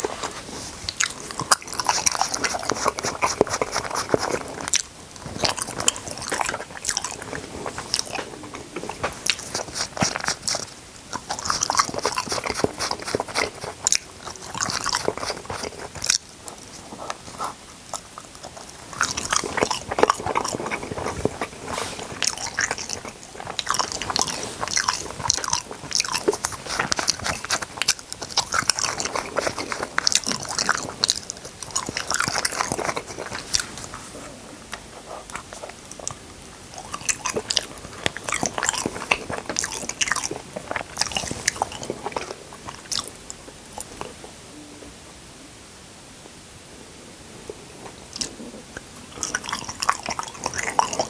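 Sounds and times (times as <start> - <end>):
crunching and chewing: 0.0 - 44.4, 47.5 - 51.0.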